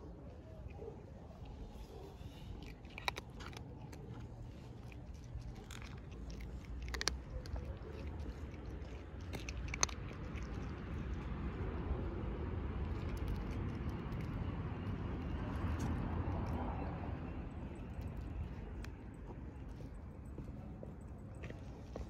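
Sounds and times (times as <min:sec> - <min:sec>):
cat crunching dry kibble: 0:00.0 - 0:20.0.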